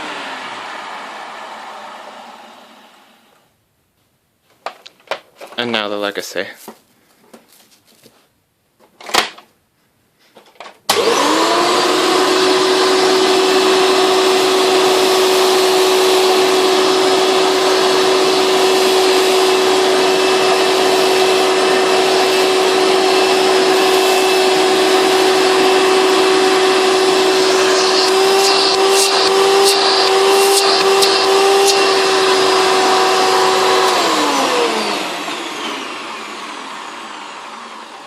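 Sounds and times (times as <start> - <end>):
vacuum cleaner motor whine: 0.0 - 3.5, 10.9 - 38.0.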